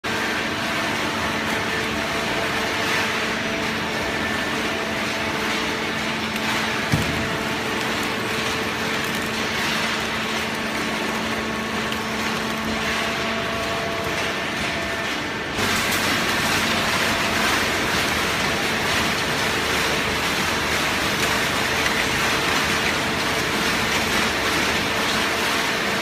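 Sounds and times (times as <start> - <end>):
baler machine hum: 1.1 - 26.0.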